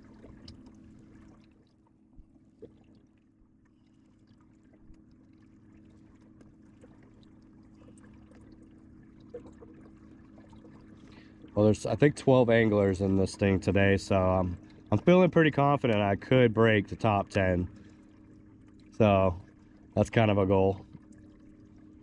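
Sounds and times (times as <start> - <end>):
water lapping against hull: 0.0 - 22.0.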